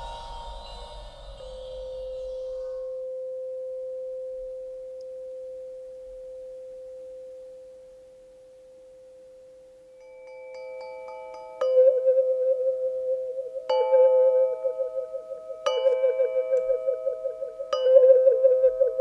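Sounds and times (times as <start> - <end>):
tuning fork ringing: 0.0 - 19.0.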